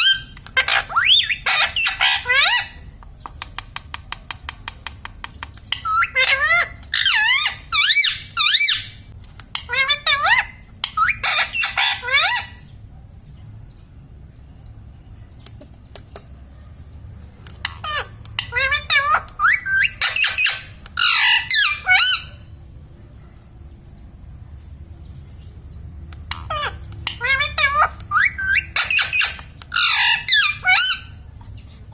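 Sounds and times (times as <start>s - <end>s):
parrot squawking and chattering: 0.0s - 12.7s, 15.5s - 22.6s, 26.0s - 31.9s.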